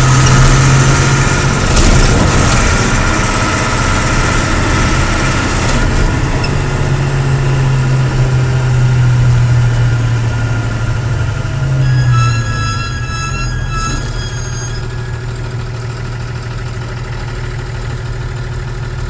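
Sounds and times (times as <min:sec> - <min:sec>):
diesel lorry engine droning: 0:00.0 - 0:19.0.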